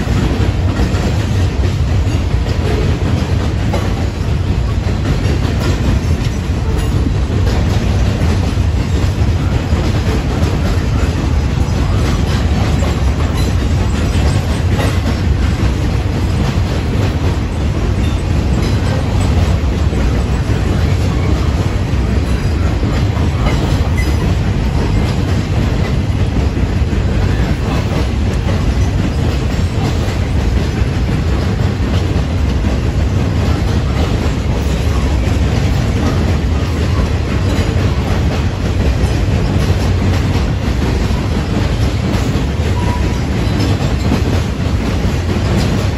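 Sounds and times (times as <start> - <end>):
steel wheels rumbling on rails: 0.0 - 45.9
wheels clacking over rail joints: 0.0 - 45.9.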